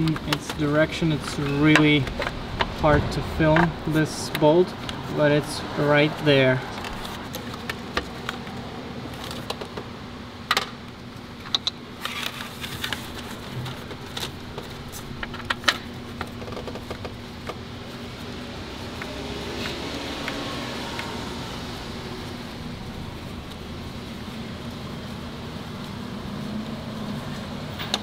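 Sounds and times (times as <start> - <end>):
steady low hum: 0.0 - 27.8.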